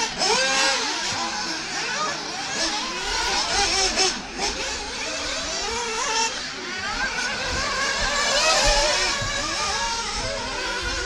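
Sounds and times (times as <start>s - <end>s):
small two-stroke engines revving: 0.0s - 11.0s.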